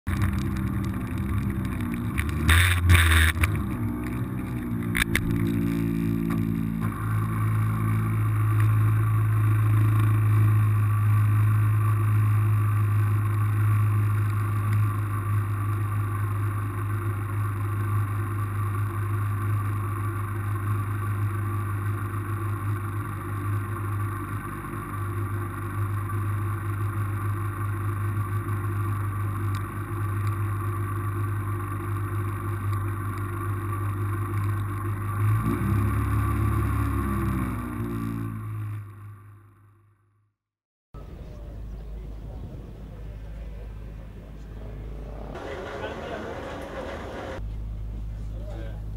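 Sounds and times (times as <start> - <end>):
car engine idling: 0.0 - 40.0, 41.0 - 48.9.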